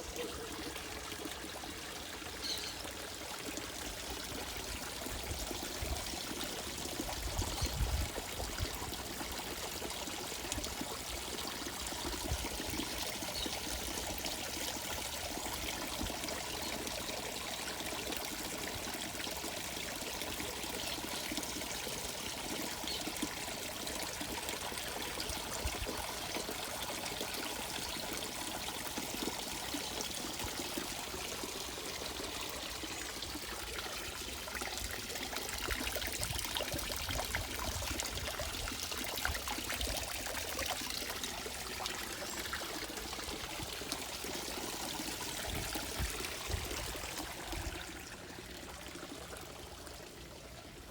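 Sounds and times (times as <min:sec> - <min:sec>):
water pouring into a pond: 0:00.0 - 0:50.9.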